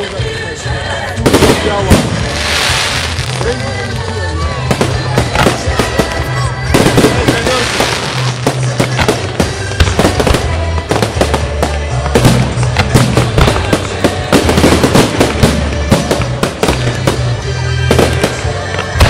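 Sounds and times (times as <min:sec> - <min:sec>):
fireworks bangs and crackling: 0:00.0 - 0:19.0
music with low bass line: 0:00.0 - 0:19.0.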